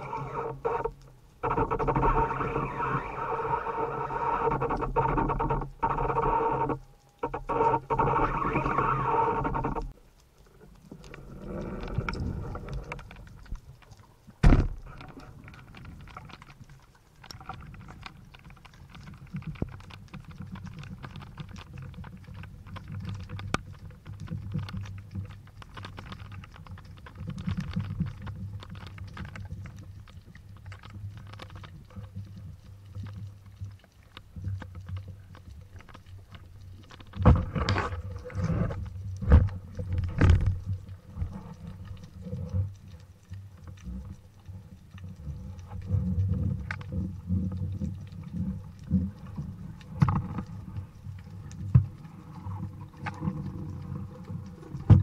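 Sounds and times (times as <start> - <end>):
faint clicks and crackle: 0.0 - 55.0
underwater rumble: 0.0 - 55.0.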